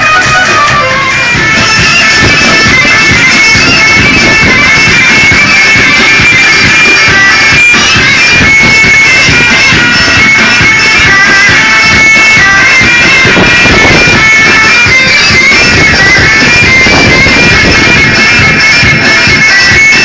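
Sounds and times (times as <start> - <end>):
fast drumming: 0.0 - 20.0
shrill reed melody: 0.0 - 20.0.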